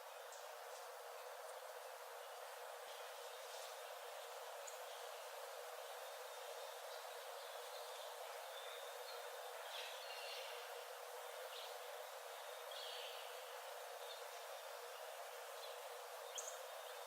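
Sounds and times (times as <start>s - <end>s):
faint bird chirps and trills: 0.0s - 17.0s
forest background hiss: 0.0s - 17.0s.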